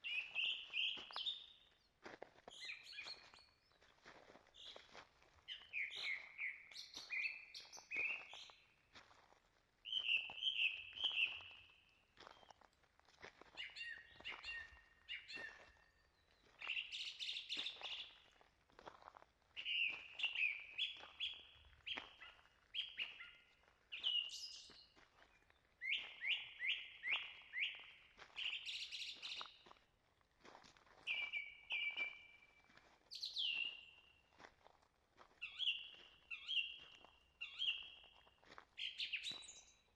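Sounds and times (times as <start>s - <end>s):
songbirds singing: 0.0s - 4.0s, 4.6s - 8.8s, 9.9s - 12.6s, 13.5s - 18.3s, 19.6s - 29.7s, 31.0s - 34.4s, 35.4s - 39.9s.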